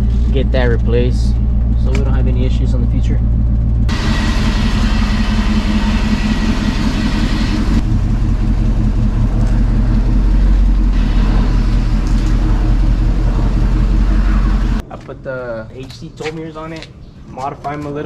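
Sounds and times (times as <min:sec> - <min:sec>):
car engine idling: 0:00.0 - 0:14.8.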